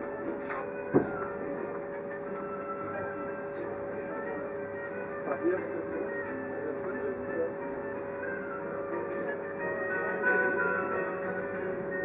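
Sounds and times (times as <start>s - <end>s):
music with sustained notes: 0.0s - 12.0s.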